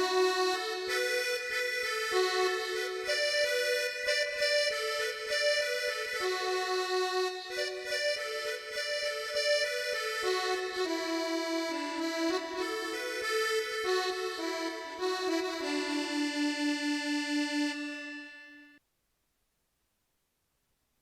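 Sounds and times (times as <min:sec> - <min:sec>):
keyboard folk melody: 0:00.0 - 0:18.8.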